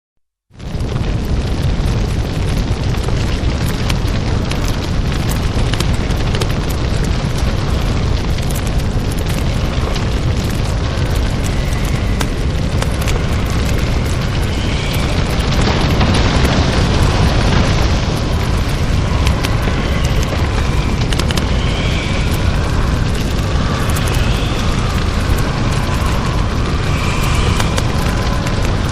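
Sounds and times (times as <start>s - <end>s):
deep monster rumble with crackling: 0.5s - 28.9s.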